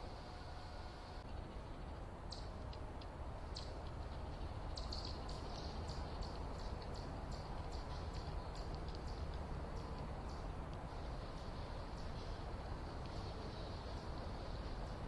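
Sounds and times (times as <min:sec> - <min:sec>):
steady low hiss: 0:00.0 - 0:15.0
small birds chipping: 0:01.2 - 0:15.0.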